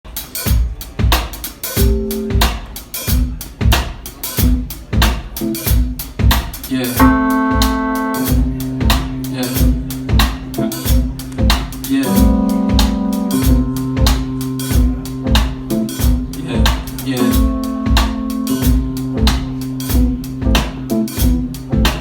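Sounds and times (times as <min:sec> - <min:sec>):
drum kit beat: 0:00.1 - 0:22.0
held keyboard chords: 0:01.8 - 0:06.4, 0:07.0 - 0:22.0.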